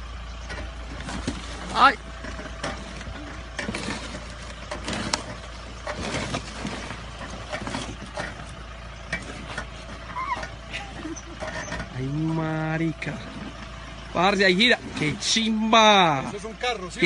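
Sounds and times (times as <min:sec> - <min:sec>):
off-road vehicle engine running: 0:00.0 - 0:17.0
vehicle knocks and clunks: 0:00.0 - 0:17.0.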